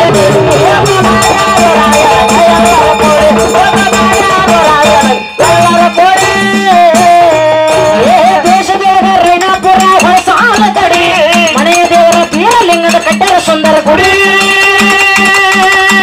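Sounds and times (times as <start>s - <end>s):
person singing: 0.0s - 16.0s
steady drum beat: 0.0s - 16.0s.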